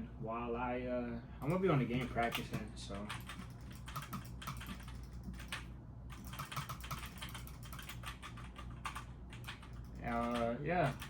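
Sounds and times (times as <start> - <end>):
low steady hum: 0.0 - 11.0
keyboard keys clicking: 1.4 - 11.0.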